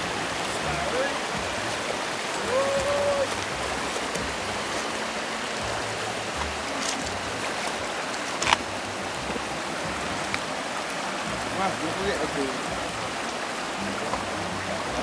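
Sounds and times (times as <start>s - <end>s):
river running over rocks: 0.0s - 15.0s.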